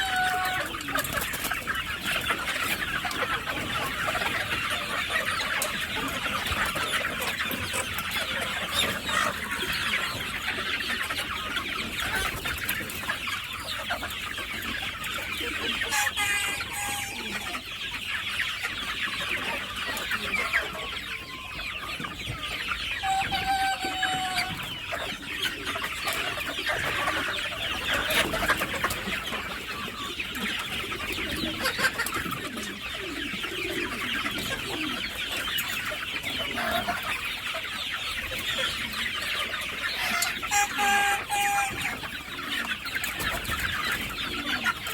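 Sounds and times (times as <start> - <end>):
chickens clucking and squawking: 0.0 - 44.9.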